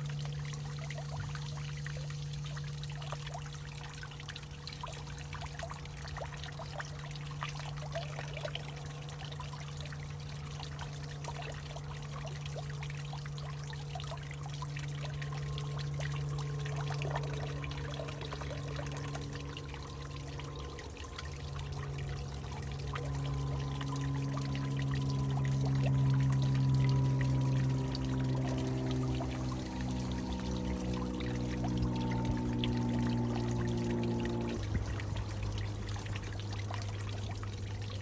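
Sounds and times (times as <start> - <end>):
steady low hum: 0.0 - 38.0
water drips and splashes: 0.0 - 38.0
water trickling and pouring: 0.0 - 38.0.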